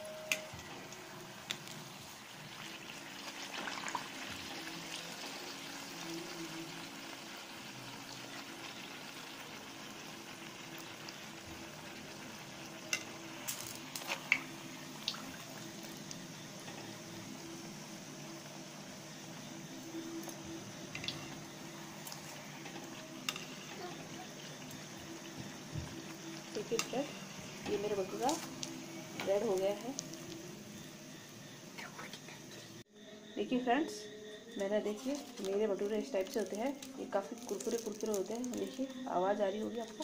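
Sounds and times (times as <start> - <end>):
bread deep-frying in sizzling oil: 0.0 - 31.8, 34.6 - 40.0.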